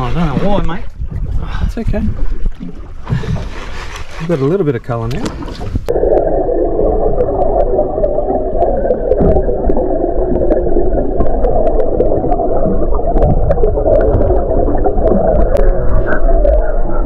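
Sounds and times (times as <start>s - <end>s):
underwater rumble and gurgling: 0.0s - 4.3s, 5.0s - 17.0s.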